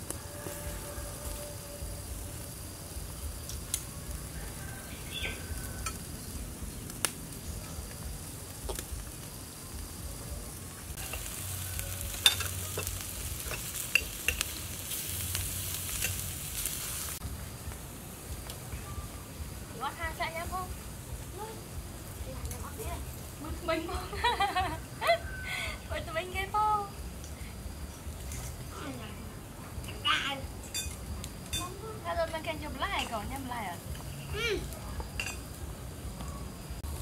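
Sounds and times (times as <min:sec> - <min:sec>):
meat sizzling on charcoal grill: 0:00.0 - 0:37.0.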